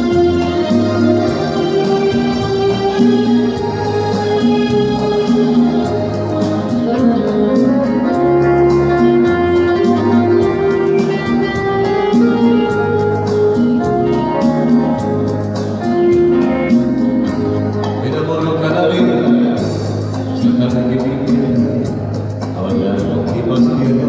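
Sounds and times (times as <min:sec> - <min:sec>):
electronic keyboard music: 0:00.0 - 0:24.0.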